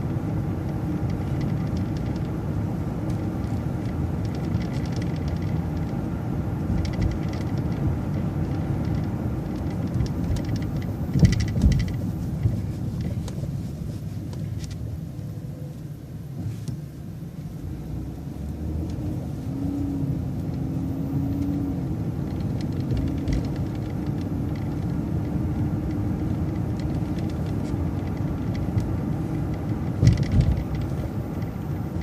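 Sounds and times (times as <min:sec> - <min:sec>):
bus engine and road noise: 0:00.0 - 0:32.0.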